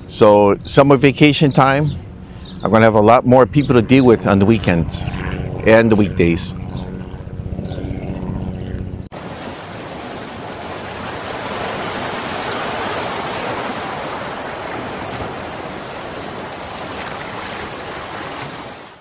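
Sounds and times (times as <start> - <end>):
steady rushing noise: 1.0 - 16.9.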